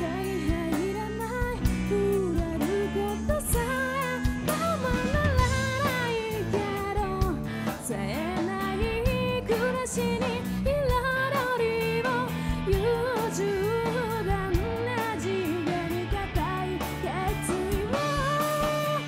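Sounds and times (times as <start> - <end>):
bass guitar: 0.0 - 19.0
drum kit: 0.0 - 19.0
electric guitar: 0.0 - 19.0
woman singing: 0.0 - 19.0.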